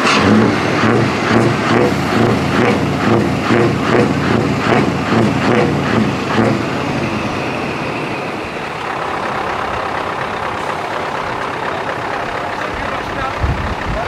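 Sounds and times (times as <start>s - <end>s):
engine whistle: 0.0s - 12.2s
truck engine revving: 0.0s - 14.0s.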